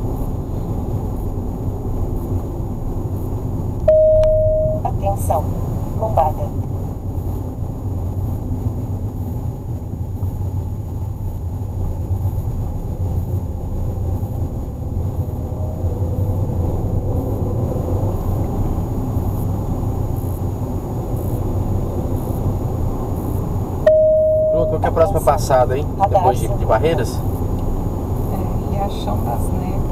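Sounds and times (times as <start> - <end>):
car engine and tyre rumble: 0.0 - 29.9.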